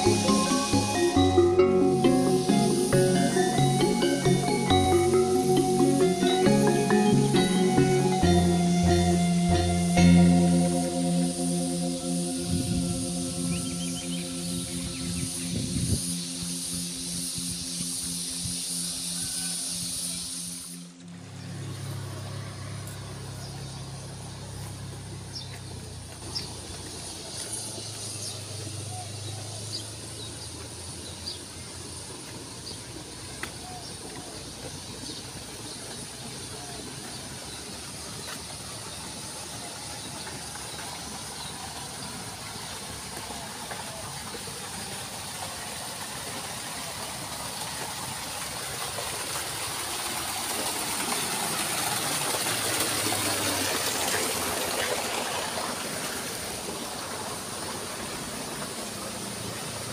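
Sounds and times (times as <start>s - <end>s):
low engine hum: 0.0s - 19.2s, 20.0s - 59.9s
outdoor hiss: 0.0s - 59.9s.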